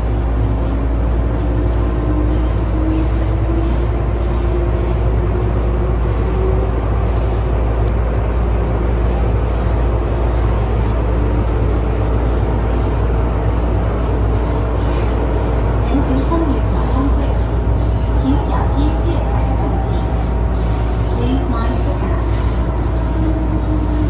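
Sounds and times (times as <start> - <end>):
train motor humming tone: 0.0 - 24.0
train wheels rumbling: 0.0 - 24.0.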